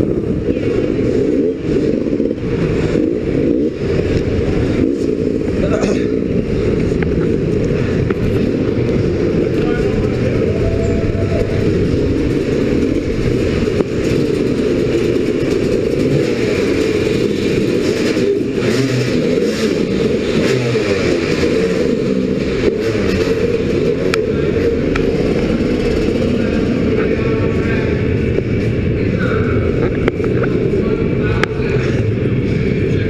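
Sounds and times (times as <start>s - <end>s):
dirt bike engine running: 0.0s - 33.0s
other motorcycle engines: 0.0s - 33.0s.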